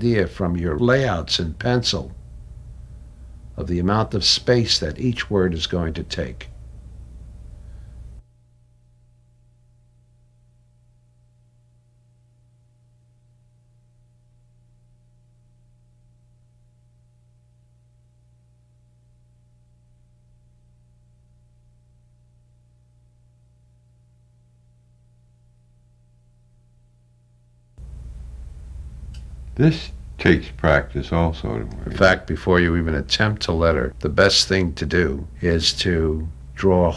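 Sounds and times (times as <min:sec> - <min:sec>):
faint electrical hum: 0:00.0 - 0:36.9.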